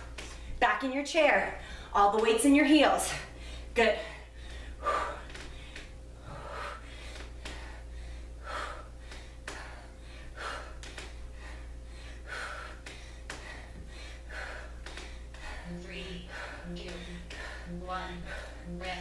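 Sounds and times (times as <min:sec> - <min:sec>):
woman breathing hard: 0:01.6 - 0:02.0, 0:03.1 - 0:19.0.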